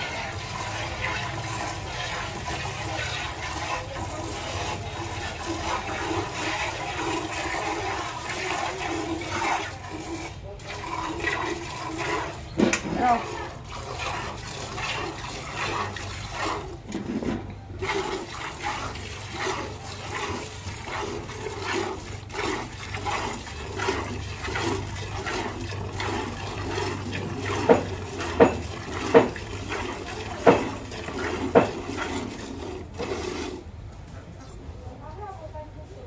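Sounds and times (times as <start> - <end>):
milk squirting into steel pail: 0.0 - 33.8.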